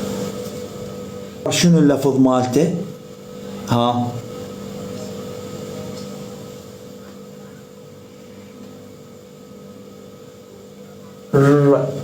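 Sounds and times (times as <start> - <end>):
low humming drone: 0.0 - 12.0.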